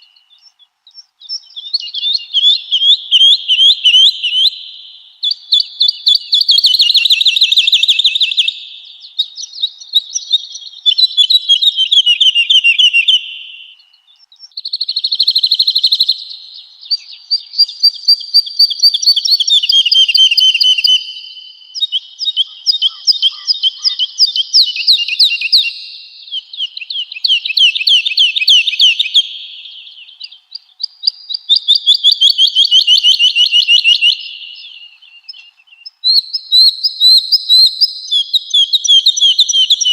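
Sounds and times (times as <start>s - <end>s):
bird singing trilled phrases: 0.0s - 39.9s.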